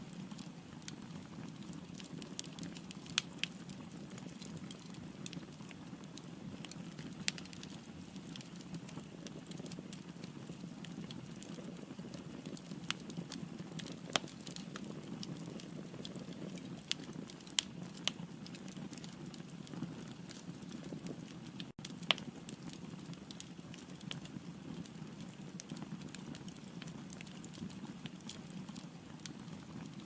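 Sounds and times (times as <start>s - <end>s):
fire crackling and popping: 0.0s - 30.0s
fire roaring: 0.0s - 30.0s.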